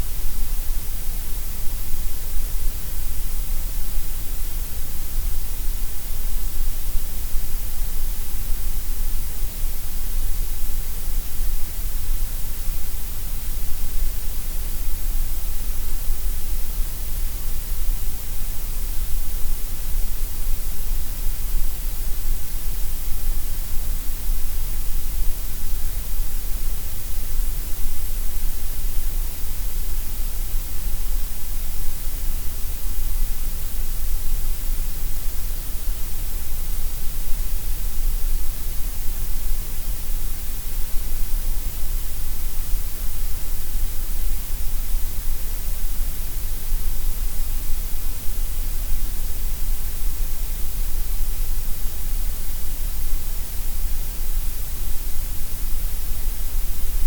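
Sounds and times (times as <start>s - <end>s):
gray noise hiss: 0.0s - 57.0s.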